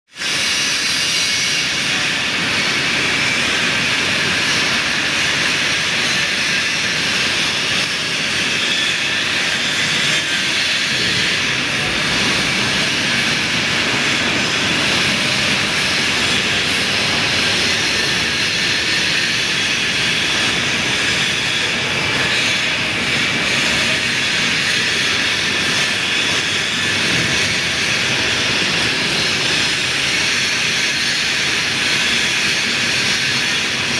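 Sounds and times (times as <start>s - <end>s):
lathe running with hiss: 0.2s - 33.9s.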